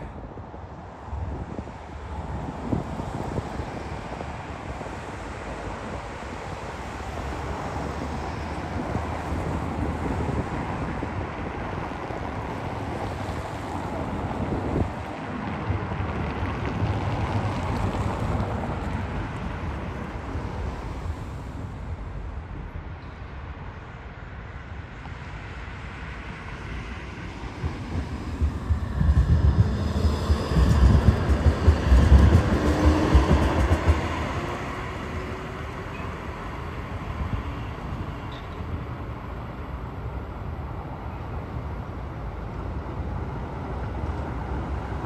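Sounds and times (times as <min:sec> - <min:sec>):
wind buffeting microphone: 0:00.0 - 0:22.9, 0:26.2 - 0:45.0
low rumble of vehicles: 0:00.0 - 0:45.0.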